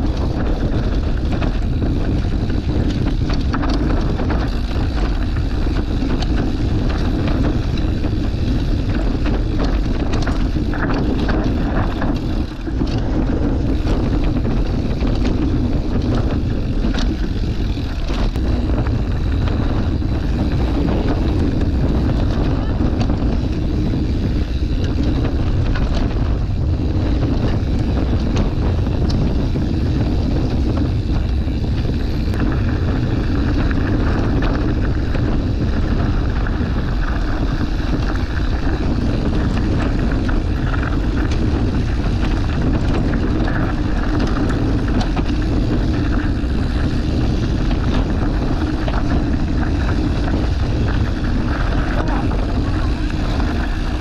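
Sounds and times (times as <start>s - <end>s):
bike tyre noise: 0.0s - 54.0s
small clicks and rattles: 0.0s - 54.0s
wind rushing over microphone: 0.0s - 54.0s.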